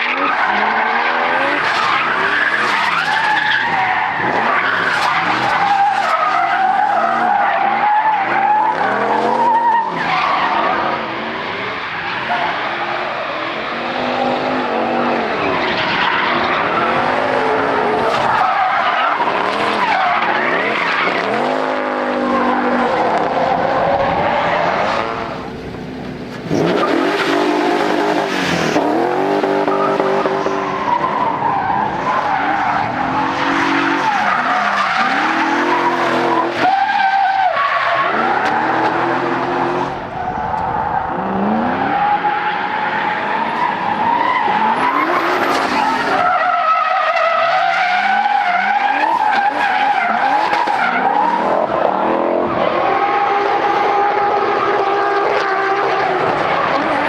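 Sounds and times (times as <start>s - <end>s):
car engines revving: 0.0s - 57.0s
tyres skidding and screeching: 0.0s - 57.0s.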